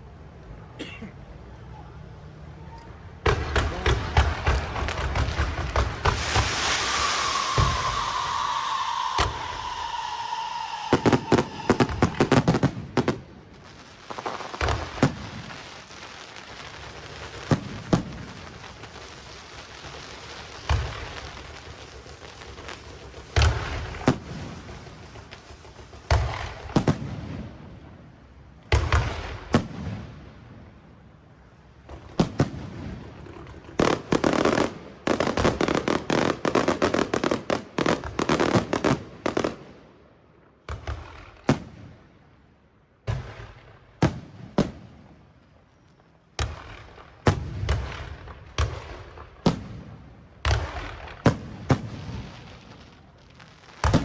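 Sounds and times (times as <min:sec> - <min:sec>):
fireworks booming and cracking: 0:03.0 - 0:54.0.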